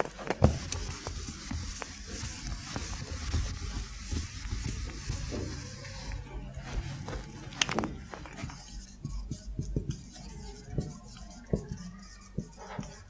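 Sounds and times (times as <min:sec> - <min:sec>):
marker writing on whiteboard: 0:00.0 - 0:13.0.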